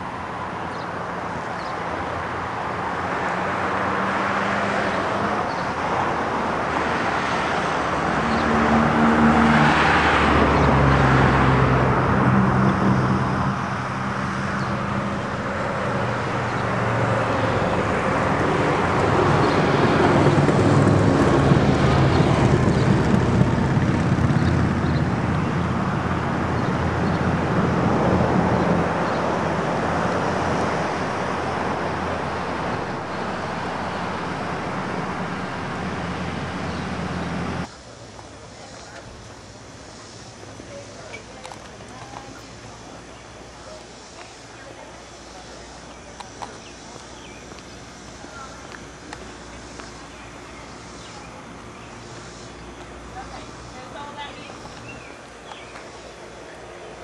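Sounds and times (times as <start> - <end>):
outdoor road noise: 0.0 - 57.0
vehicle engine humming: 0.0 - 57.0.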